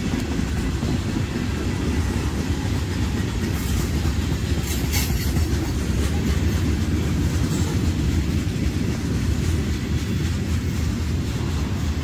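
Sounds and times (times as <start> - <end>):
freight train cars rolling: 0.0 - 12.0.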